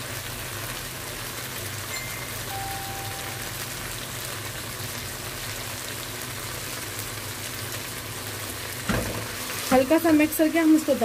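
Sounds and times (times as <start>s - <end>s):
food sizzling in pot: 0.0s - 11.0s.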